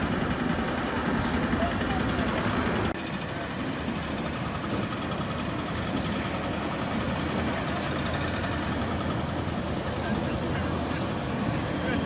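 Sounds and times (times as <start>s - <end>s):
street noise: 0.0s - 12.0s
vehicle engines idling: 0.0s - 12.0s.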